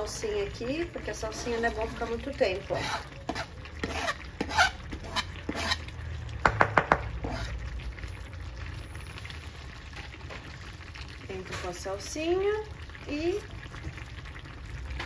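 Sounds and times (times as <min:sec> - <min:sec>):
pot simmering and bubbling: 0:00.0 - 0:15.0.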